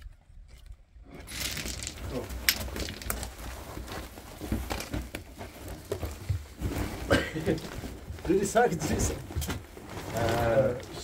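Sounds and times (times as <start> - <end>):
cloth sack rustling and scraping: 1.1 - 11.0.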